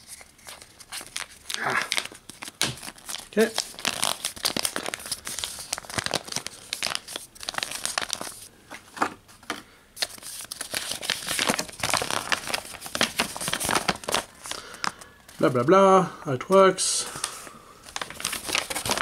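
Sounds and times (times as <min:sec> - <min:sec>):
paper crinkling and rustling: 0:00.0 - 0:15.6, 0:17.2 - 0:19.0.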